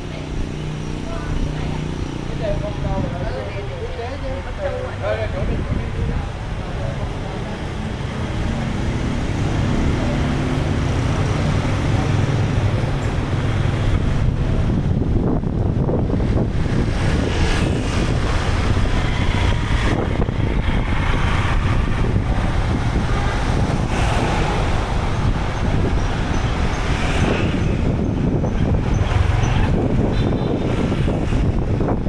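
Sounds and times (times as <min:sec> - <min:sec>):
street traffic: 0:00.0 - 0:32.0
wind buffeting microphone: 0:00.0 - 0:32.0.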